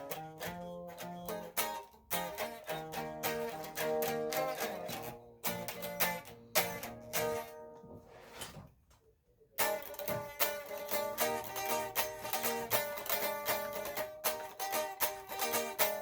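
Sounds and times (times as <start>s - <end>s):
plucked string instrument music: 0.0s - 8.0s, 9.6s - 16.0s.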